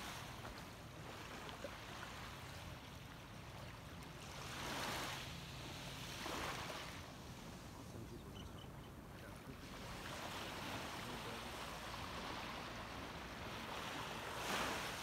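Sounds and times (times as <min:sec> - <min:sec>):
surf washing: 0:00.0 - 0:08.2, 0:08.9 - 0:15.0
small waves lapping on shore: 0:00.0 - 0:15.0.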